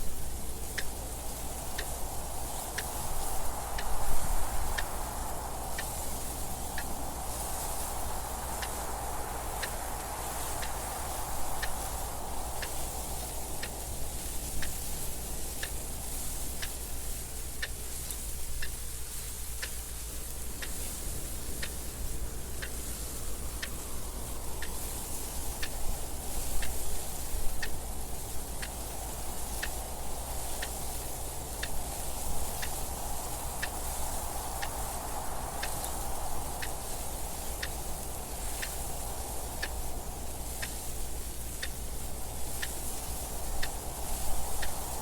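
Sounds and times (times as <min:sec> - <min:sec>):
soft wind noise: 0:00.0 - 0:45.0
clock ticking: 0:00.6 - 0:04.9, 0:05.7 - 0:19.9, 0:20.5 - 0:45.0.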